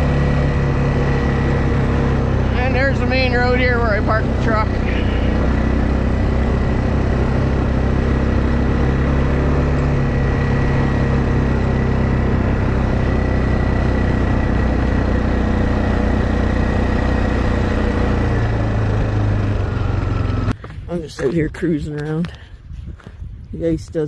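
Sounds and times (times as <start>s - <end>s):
atv engine running: 0.0s - 23.1s.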